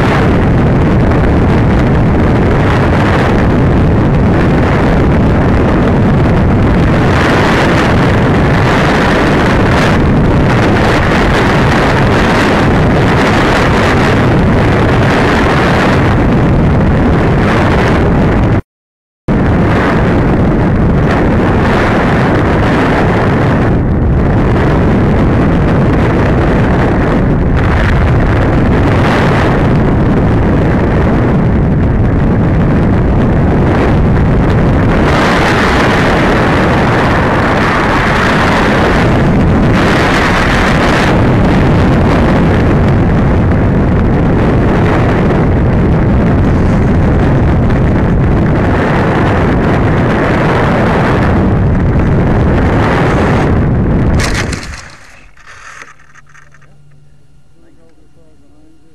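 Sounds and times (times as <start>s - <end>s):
wind noise on microphone: 0.0s - 18.6s, 19.3s - 58.9s.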